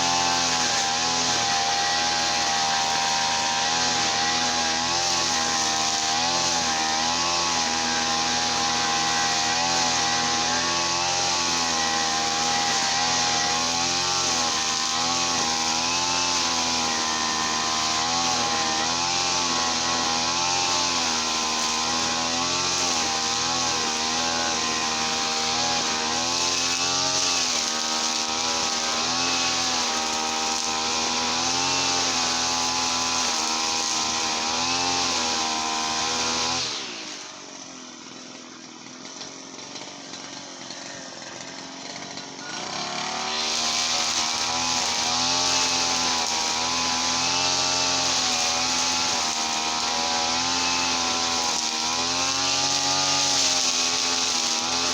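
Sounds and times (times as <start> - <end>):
brush cutter engine running: 0.0 - 54.9.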